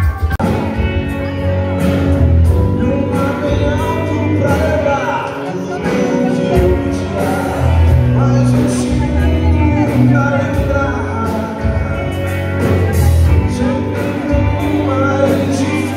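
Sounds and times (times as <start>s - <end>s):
drums: 0.0s - 15.9s
electric guitars: 0.0s - 15.9s
heavy bass line: 0.0s - 15.9s
keyboard: 0.0s - 15.9s
sung lead vocal: 0.0s - 15.9s.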